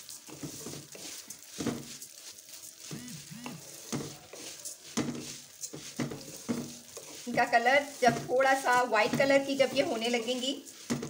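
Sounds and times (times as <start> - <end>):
light sizzle: 0.0 - 11.0
spoon scraping metal wok: 0.0 - 11.0.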